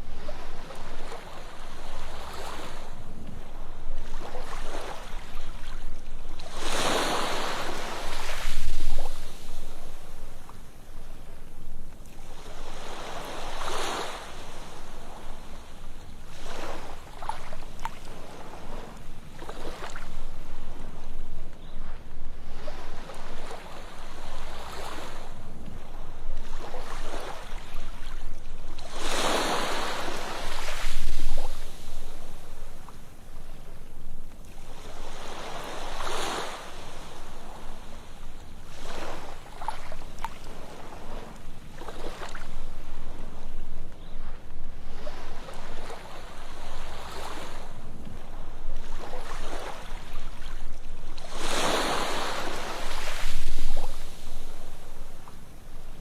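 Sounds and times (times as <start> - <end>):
waves breaking on sandy beach: 0.0 - 56.0.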